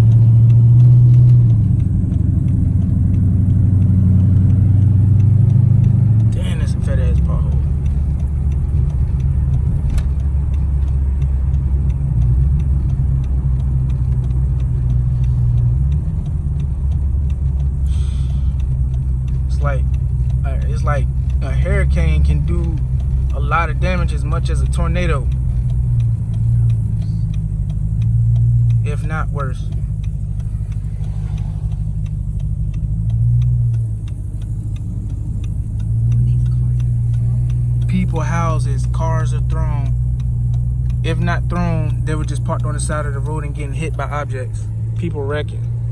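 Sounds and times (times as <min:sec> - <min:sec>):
car engine drone and road noise: 0:00.0 - 0:45.9
faint steady ticking: 0:00.0 - 0:45.9.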